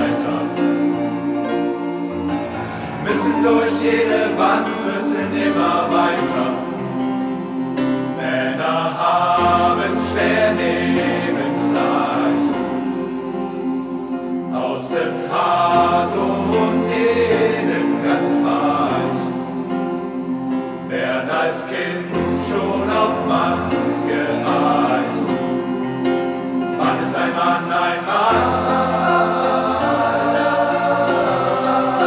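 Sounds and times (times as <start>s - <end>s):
male choir singing: 0.0s - 32.0s
piano accompaniment: 0.0s - 32.0s.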